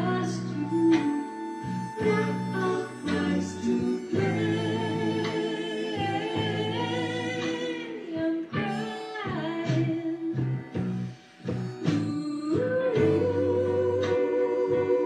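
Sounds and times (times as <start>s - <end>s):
harmonica slow melody: 0.0s - 15.0s.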